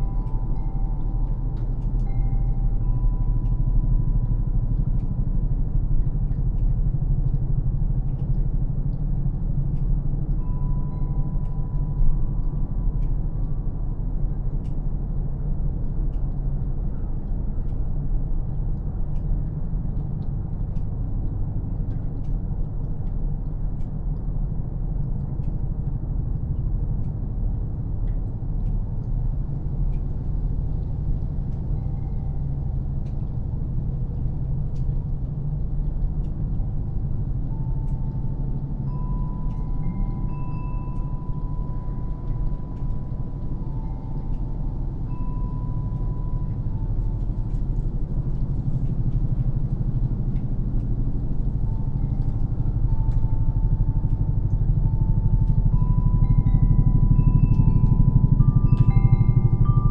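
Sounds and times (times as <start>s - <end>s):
distant low rumble: 0.0s - 59.9s.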